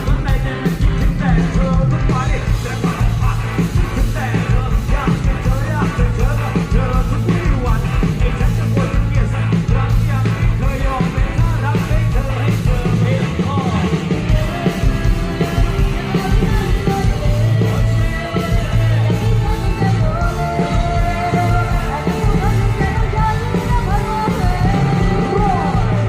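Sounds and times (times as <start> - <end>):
live band music: 0.0 - 26.0
person singing: 0.0 - 26.0.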